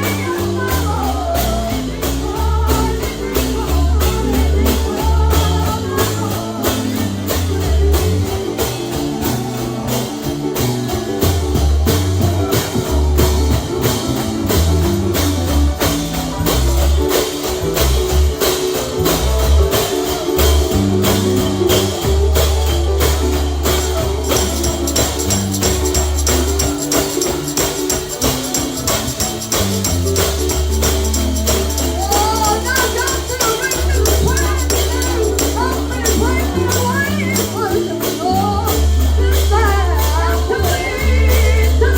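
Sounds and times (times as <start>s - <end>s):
gospel band playing: 0.0s - 41.9s
tambourine beat: 0.0s - 41.9s.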